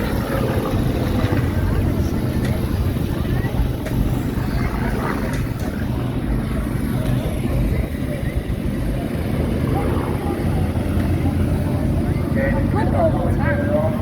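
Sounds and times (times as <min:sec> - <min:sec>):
propeller engine rumble: 0:00.0 - 0:14.0
wind buffeting microphone: 0:00.0 - 0:14.0.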